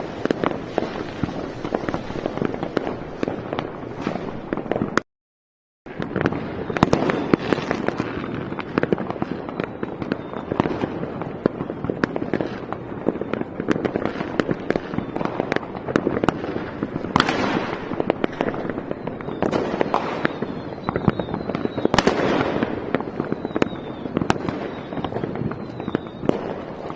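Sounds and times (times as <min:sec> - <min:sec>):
fireworks bangs and crackles: 0:00.0 - 0:05.0, 0:05.9 - 0:26.9.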